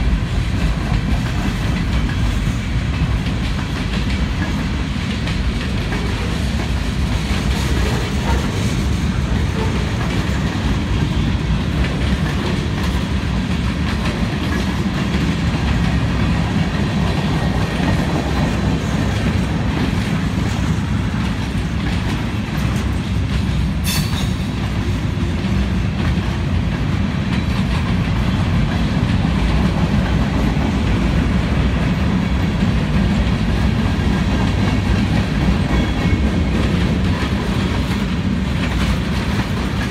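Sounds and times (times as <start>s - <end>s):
freight train rolling past: 0.0s - 39.9s
wheels clacking over rail joints: 0.0s - 39.9s.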